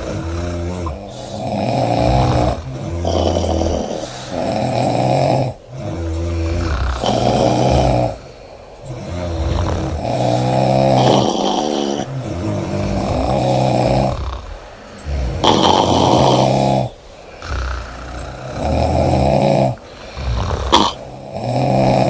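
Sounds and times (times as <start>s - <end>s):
woman snoring loudly: 0.0s - 22.0s.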